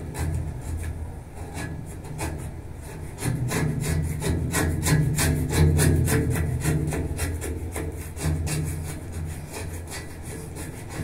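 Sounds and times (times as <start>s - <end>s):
hand tool scraping iron railing: 0.0s - 11.0s.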